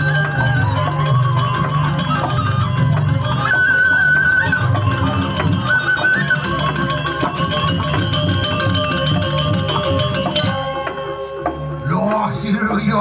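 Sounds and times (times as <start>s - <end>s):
ceremonial percussion music: 0.0s - 13.0s.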